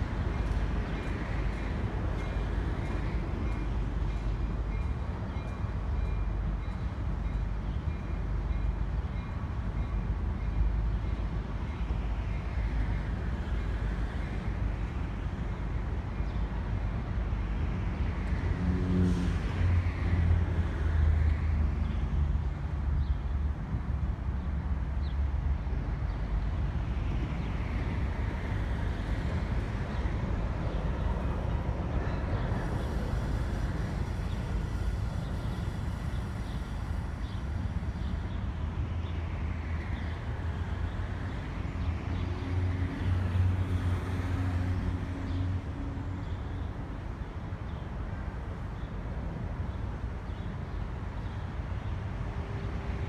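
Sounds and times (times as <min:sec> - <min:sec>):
diesel train rumbling: 0:00.0 - 0:53.0
road traffic passing overhead: 0:00.0 - 0:53.0.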